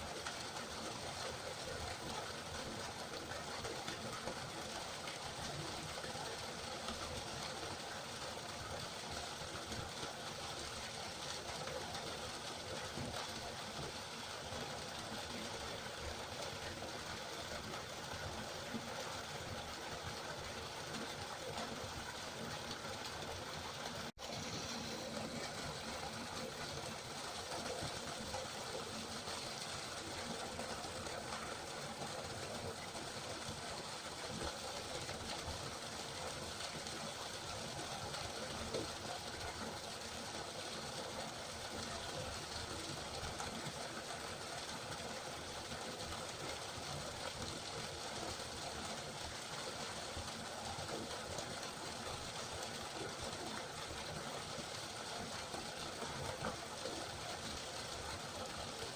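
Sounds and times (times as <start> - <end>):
river water flowing: 0.0 - 58.9.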